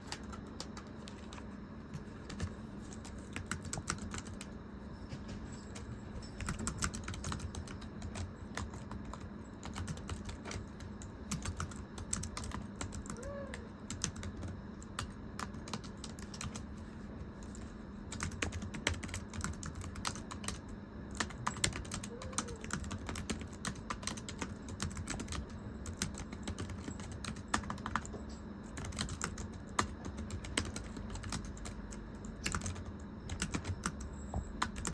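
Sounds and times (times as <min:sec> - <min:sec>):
faint low hum: 0:00.0 - 0:34.9
typing on thin keyboard: 0:02.3 - 0:04.5, 0:06.4 - 0:13.2, 0:13.9 - 0:16.6, 0:18.1 - 0:28.1, 0:28.7 - 0:34.9.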